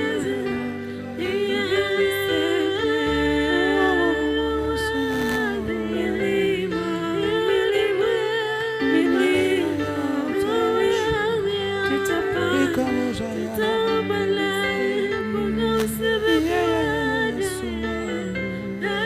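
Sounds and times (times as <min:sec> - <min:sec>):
low keyboard chords: 0:00.0 - 0:19.0
person humming a melody: 0:00.0 - 0:19.0.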